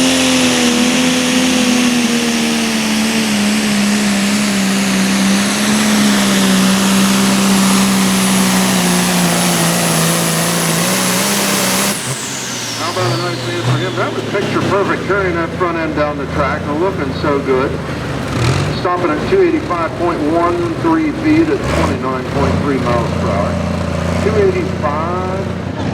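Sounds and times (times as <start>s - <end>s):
diesel tractor engine under load: 0.0s - 25.9s
high turbo whine: 0.0s - 25.9s.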